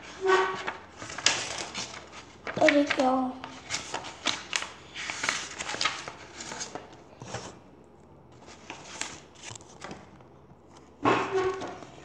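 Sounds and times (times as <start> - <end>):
pages rustling: 0.0 - 7.6, 8.3 - 11.0.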